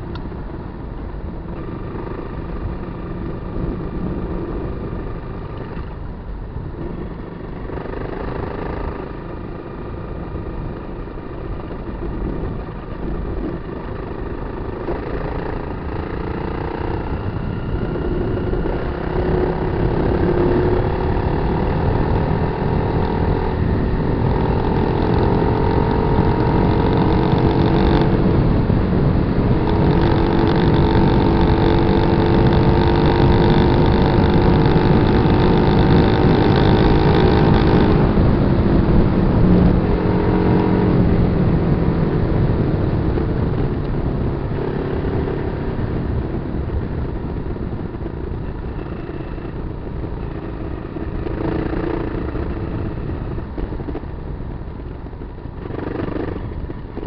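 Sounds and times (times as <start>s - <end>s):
motorcycle engine revving: 1.3s - 57.0s.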